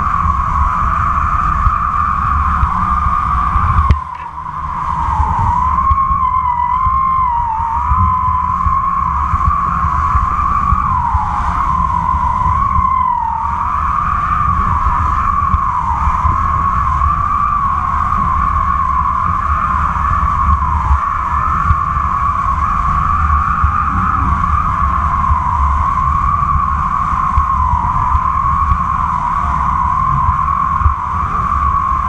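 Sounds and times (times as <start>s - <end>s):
kite line humming whistle: 0.0s - 32.0s
wind buffeting camera: 0.0s - 32.0s.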